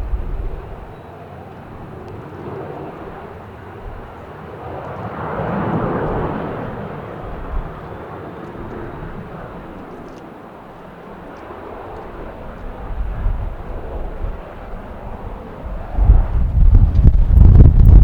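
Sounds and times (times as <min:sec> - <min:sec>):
distant jet engines rushing: 0:00.0 - 0:18.0
wind rumble on microphone: 0:00.0 - 0:18.0.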